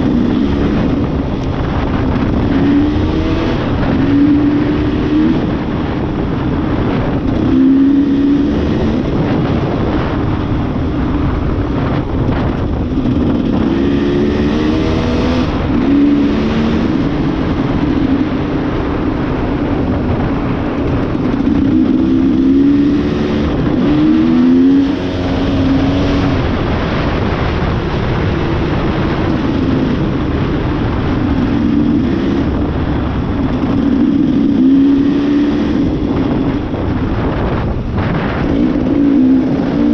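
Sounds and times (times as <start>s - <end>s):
dirt bike engine revving: 0.0s - 39.9s
steady rushing noise: 0.0s - 39.9s.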